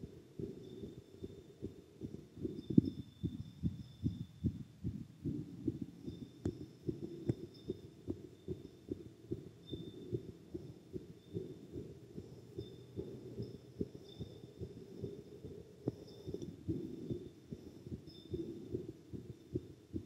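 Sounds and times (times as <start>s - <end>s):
heartbeat thumps: 0.0s - 20.0s.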